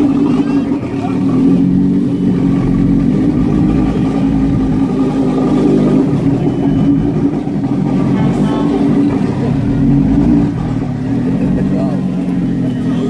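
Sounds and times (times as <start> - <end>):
race car engine idling: 0.0 - 13.0.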